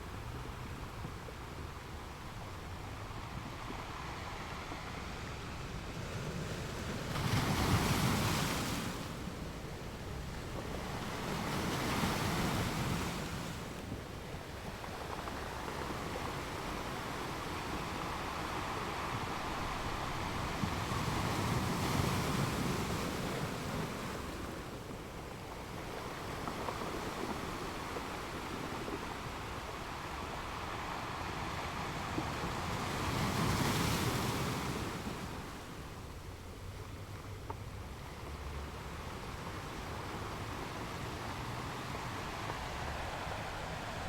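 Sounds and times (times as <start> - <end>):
ocean waves washing ashore: 0.0 - 44.0.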